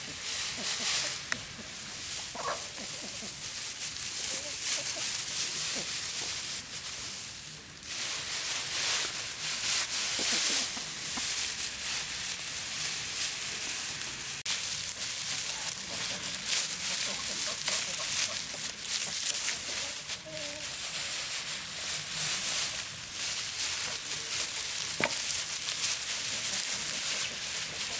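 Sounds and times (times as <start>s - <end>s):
dry straw rustling and crackling: 0.0s - 27.9s.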